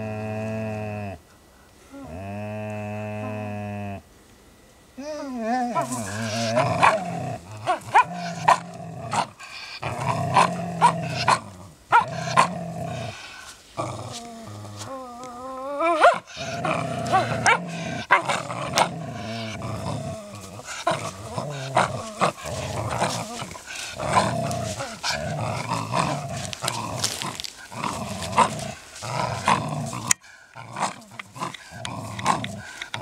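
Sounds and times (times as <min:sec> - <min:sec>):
dogs growling: 0:05.0 - 0:33.0.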